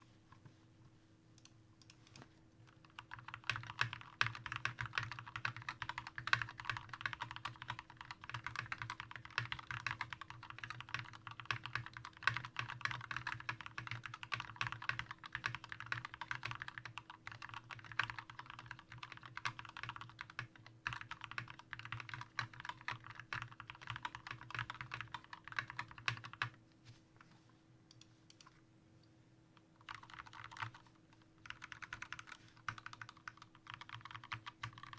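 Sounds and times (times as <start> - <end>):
typing on mechanical keyboard: 2.7 - 26.6, 29.8 - 34.9.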